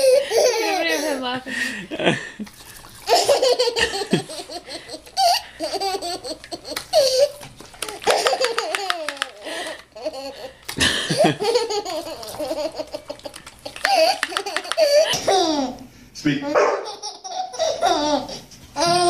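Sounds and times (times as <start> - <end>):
toddler laughing: 0.0 - 1.2, 3.1 - 15.8, 16.4 - 19.0.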